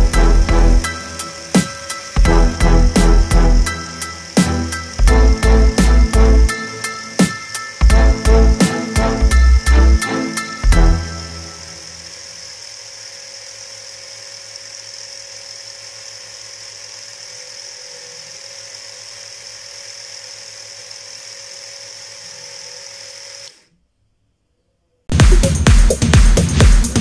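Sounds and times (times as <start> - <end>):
small motor whining: 0.0 - 23.8.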